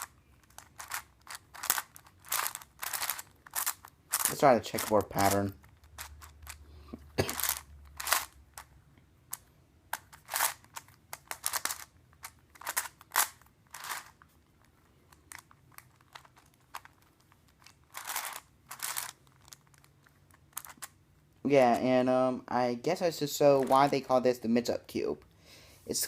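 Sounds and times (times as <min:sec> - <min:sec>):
puzzle cube clicks and rasps: 0:00.0 - 0:21.8.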